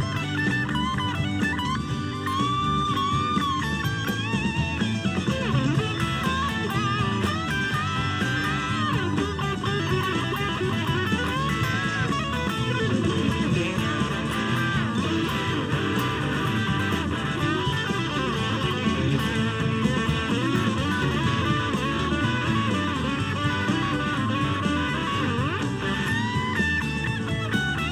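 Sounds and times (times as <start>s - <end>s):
lead electric guitar: 0.0s - 27.9s
rock band drums and bass: 0.0s - 27.9s.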